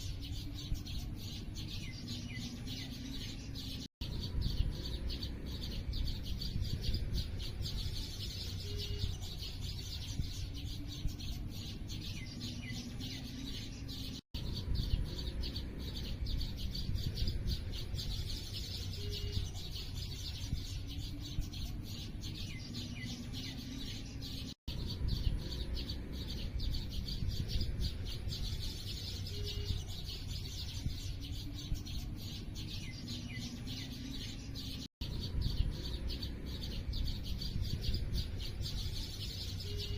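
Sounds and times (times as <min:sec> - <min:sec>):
low background rumble: 0:00.0 - 0:39.9
small birds chirping: 0:00.0 - 0:39.9.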